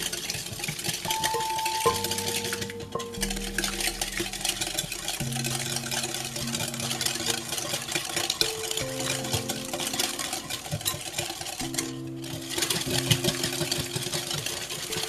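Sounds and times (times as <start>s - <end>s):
background music with held notes: 0.0s - 15.0s
whisk scraping glass bowl: 0.0s - 15.0s.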